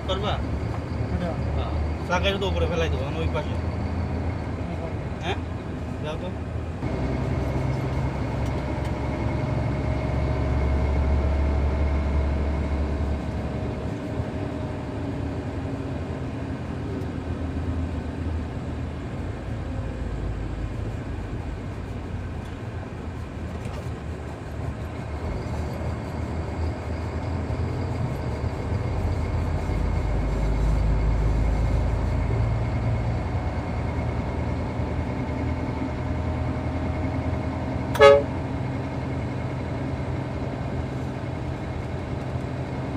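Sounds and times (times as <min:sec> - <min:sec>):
excavator diesel engine working: 0:00.0 - 0:42.9.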